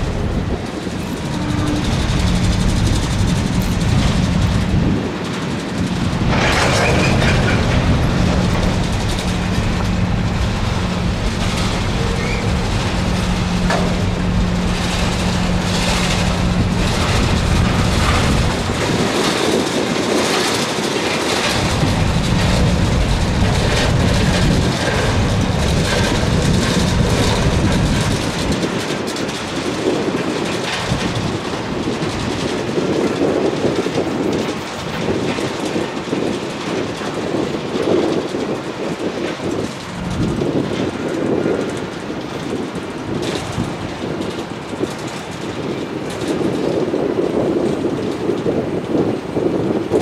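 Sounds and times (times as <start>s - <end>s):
train wheels clattering over rail joints: 0.0s - 50.0s.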